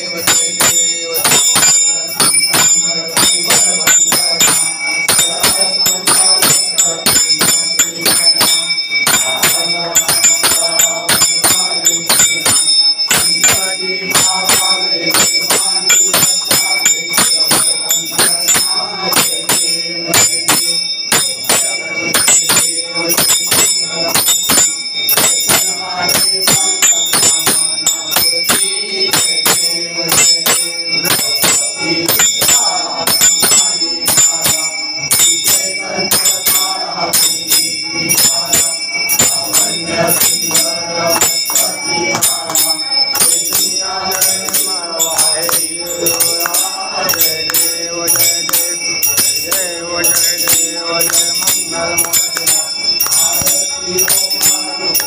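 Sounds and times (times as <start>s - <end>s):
people singing: 0.0s - 55.0s
temple bell ringing rapidly: 0.0s - 55.0s.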